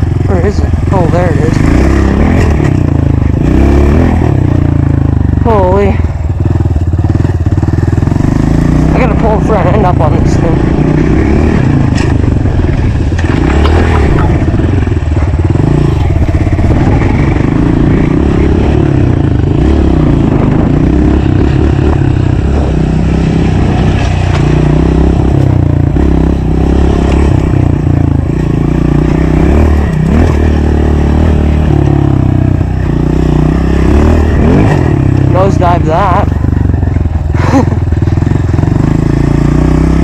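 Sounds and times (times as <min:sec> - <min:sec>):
pit bike engine revving: 0:00.0 - 0:40.0.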